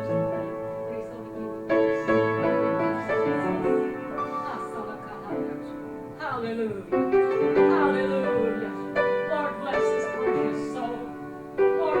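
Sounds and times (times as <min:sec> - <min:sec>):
slow sustained piano chords: 0:00.0 - 0:12.0.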